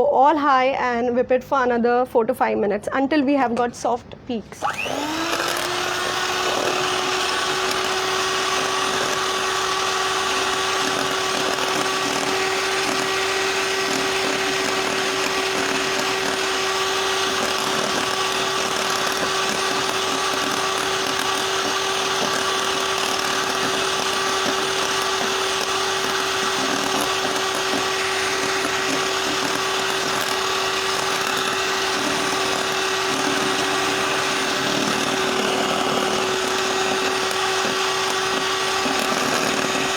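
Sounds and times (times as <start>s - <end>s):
electric mixer whining: 4.5s - 39.9s.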